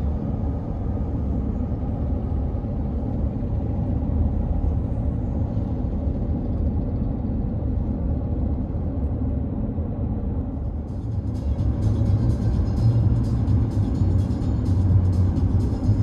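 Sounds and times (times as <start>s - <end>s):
tyre and road noise in car: 0.0s - 16.0s.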